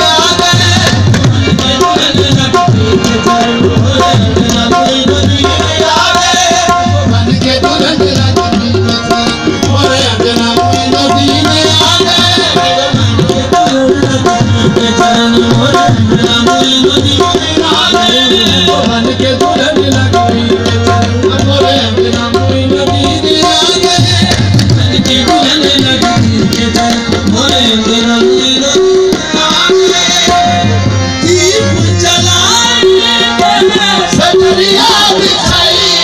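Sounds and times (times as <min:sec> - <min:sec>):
harmonium held tones: 0:00.0 - 0:36.0
tabla drumming: 0:00.0 - 0:36.0.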